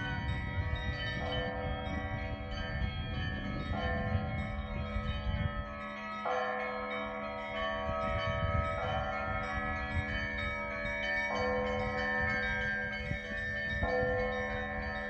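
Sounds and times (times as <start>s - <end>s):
large bells ringing: 0.0s - 15.0s
smaller higher bells: 0.0s - 15.0s.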